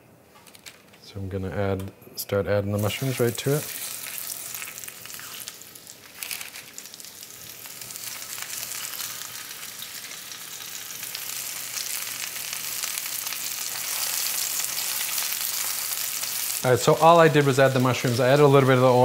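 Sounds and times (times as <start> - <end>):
oil sizzling in skillet: 2.8 - 19.0.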